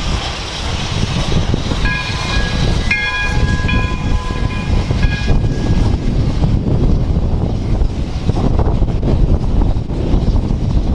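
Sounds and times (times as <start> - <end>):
wind noise on microphone: 0.0 - 10.9.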